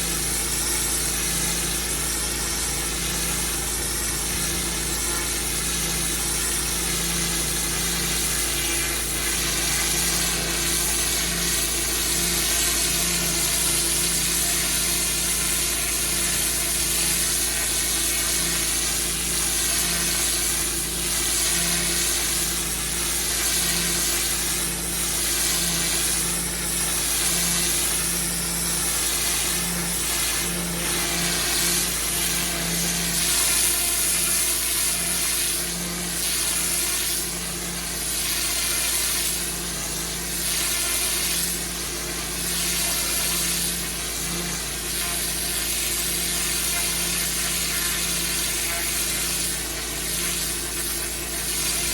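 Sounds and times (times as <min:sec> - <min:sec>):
pressure washer engine running: 0:00.0 - 0:51.9
water jet hissing on paving: 0:00.0 - 0:51.9.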